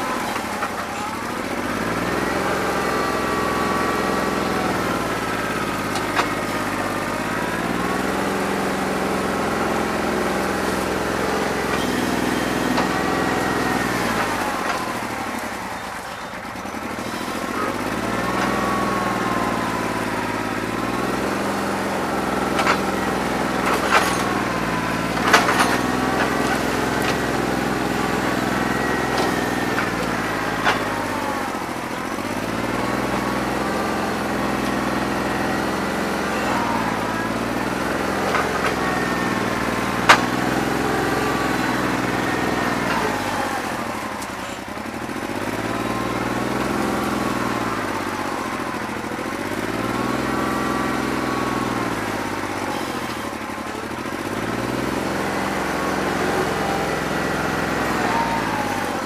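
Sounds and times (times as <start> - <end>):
tractor diesel engine misfiring: 0.0 - 59.0.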